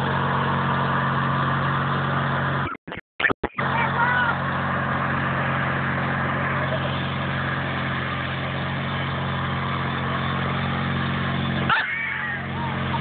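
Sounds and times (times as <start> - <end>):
lawn tractor engine droning: 0.0 - 2.8, 3.5 - 13.0.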